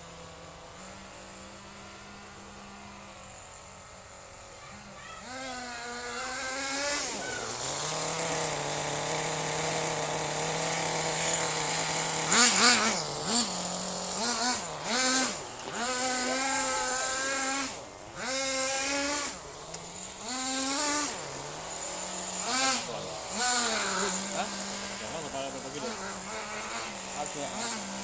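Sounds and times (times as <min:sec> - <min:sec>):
small engine idling and revving: 0:00.0 - 0:28.0.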